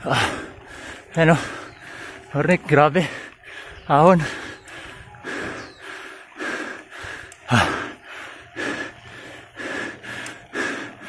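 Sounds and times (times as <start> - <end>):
heavy hard breathing: 0.0 - 2.4, 3.0 - 11.0.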